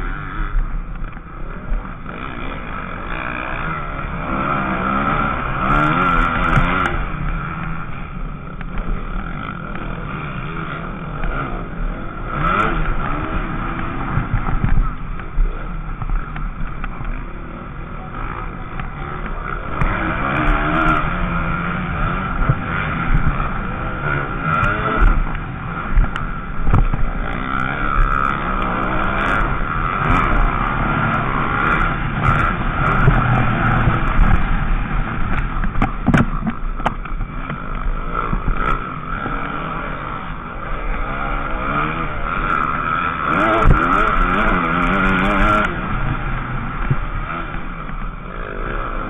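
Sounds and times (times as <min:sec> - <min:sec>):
motocross engine revving: 0:00.0 - 0:49.0.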